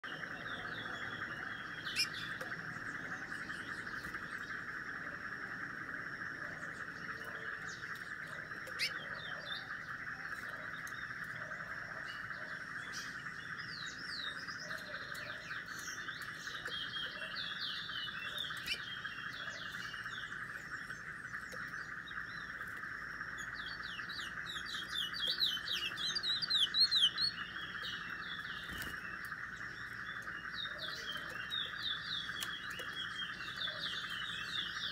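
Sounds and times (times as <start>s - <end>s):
songbird chirping: 0.0s - 34.9s
steady background drone: 0.0s - 34.9s.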